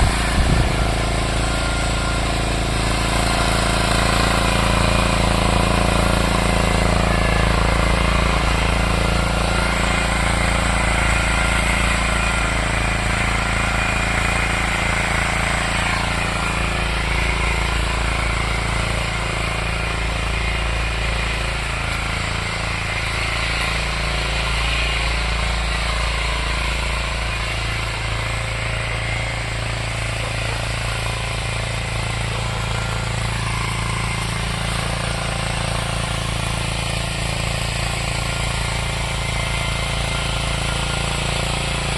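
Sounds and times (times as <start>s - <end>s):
ploughing machine engine running: 0.0s - 41.9s.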